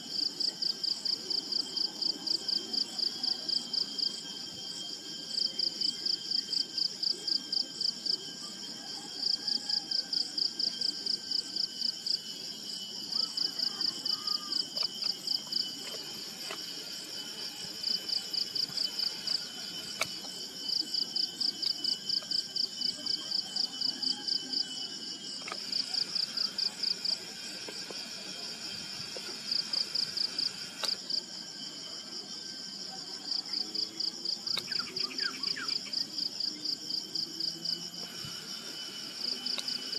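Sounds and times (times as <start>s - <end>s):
insect drone: 0.0s - 39.9s
insects chirping in pulses: 0.0s - 39.9s.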